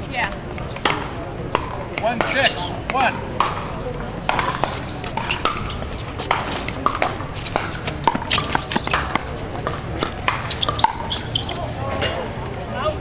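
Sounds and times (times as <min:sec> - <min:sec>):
paddles hitting ball pops: 0:00.3 - 0:03.7, 0:04.3 - 0:11.6.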